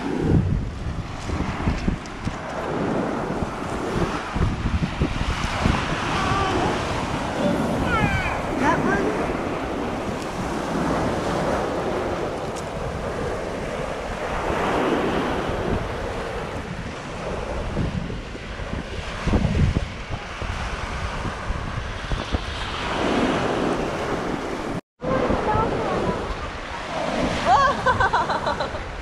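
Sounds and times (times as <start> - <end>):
surf washing onto shore: 0.0 - 29.0
wind buffeting microphone: 0.0 - 29.0.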